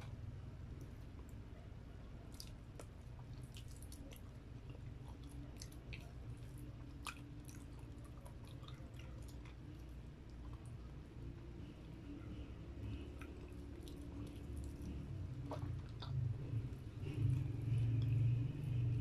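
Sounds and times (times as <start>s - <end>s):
steady low hum: 0.0s - 19.0s
wet chewing: 2.0s - 19.0s.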